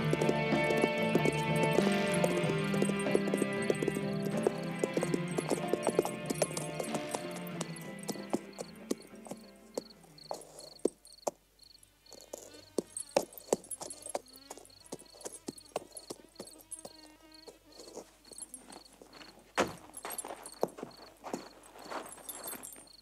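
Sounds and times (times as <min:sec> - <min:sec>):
cricket chirping: 0:00.0 - 0:23.0
horse hooves clopping: 0:00.0 - 0:23.0.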